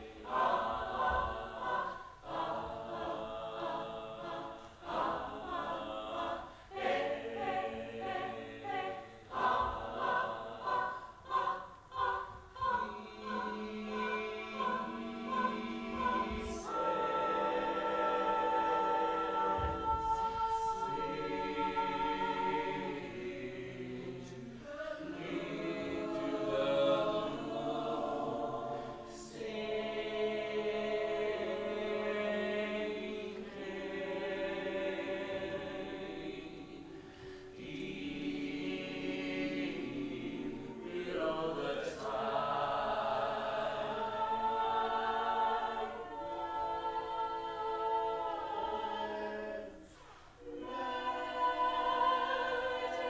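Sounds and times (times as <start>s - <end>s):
choir singing a cappella: 0.0s - 53.0s.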